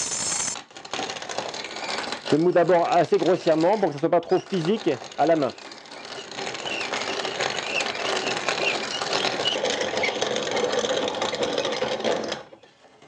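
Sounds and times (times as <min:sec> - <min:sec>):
grain mill grinding corn: 0:00.0 - 0:12.7.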